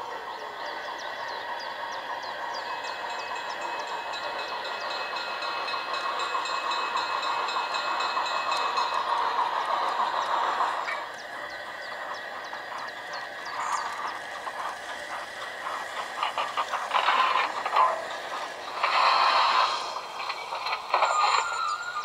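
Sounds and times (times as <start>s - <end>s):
model train rolling on track: 0.0s - 22.0s
rapid clicking of train wheels: 0.0s - 22.0s.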